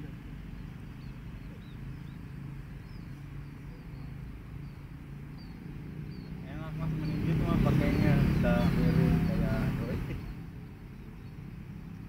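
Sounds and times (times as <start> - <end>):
small birds chirping faintly: 0.0 - 12.0.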